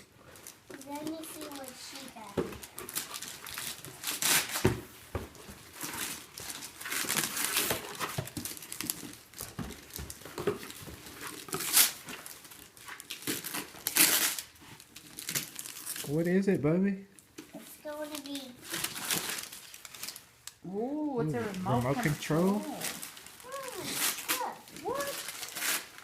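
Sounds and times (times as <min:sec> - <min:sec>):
wrapping paper tearing and crumpling: 0:00.2 - 0:04.7, 0:05.6 - 0:16.3, 0:17.6 - 0:20.6, 0:21.4 - 0:26.0.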